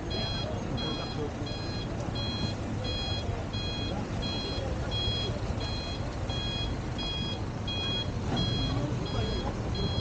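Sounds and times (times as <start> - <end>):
truck reversing alarm beeping: 0.0 - 10.0.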